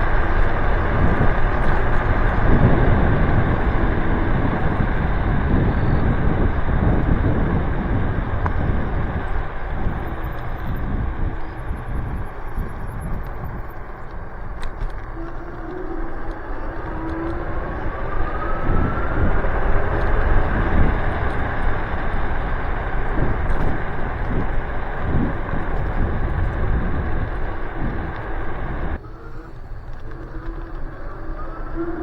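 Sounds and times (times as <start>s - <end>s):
electric motor whine: 0.0s - 32.0s
road noise: 0.0s - 32.0s
rushing wind: 0.0s - 32.0s.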